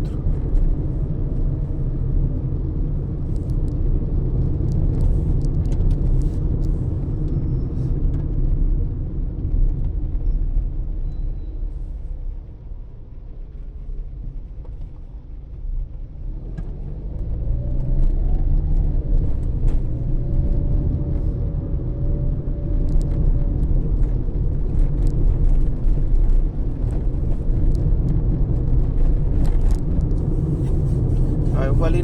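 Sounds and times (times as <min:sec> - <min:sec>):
car engine and road rumble: 0:00.0 - 0:32.0.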